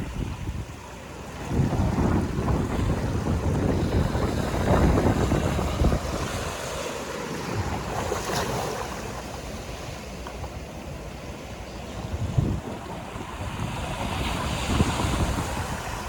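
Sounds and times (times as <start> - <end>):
sea surf washing in: 0.0 - 16.0
wind buffeting microphone: 0.0 - 16.0.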